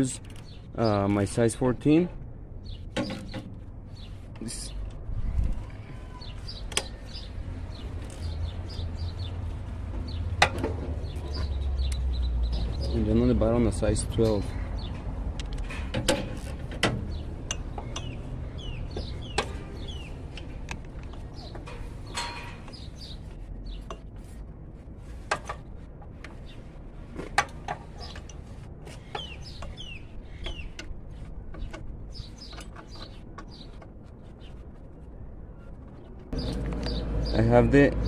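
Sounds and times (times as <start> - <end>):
birds chirping: 0.0 - 24.4, 25.4 - 38.0.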